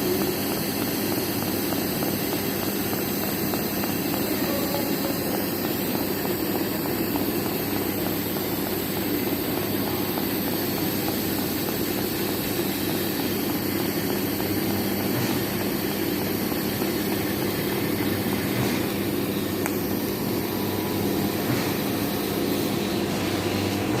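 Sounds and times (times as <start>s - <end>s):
machine drone with low hum: 0.0s - 24.0s.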